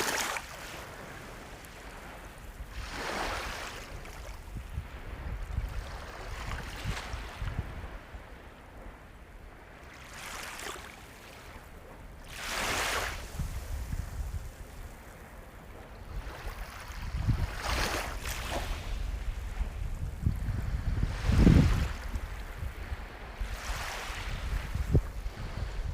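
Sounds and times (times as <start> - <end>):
sea waves breaking on shore: 0.0 - 25.9.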